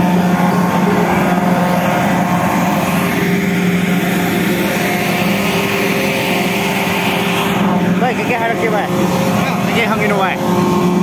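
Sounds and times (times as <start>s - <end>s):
ventilation fans droning: 0.0s - 11.0s.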